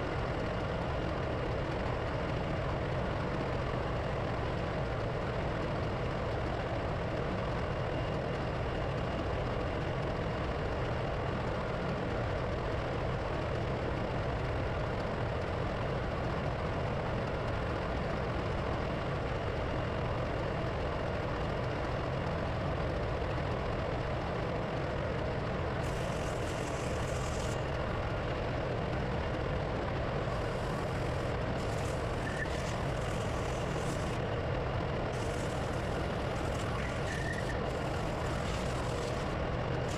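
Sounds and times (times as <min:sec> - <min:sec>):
engine-room machinery drone: 0:00.0 - 0:39.9.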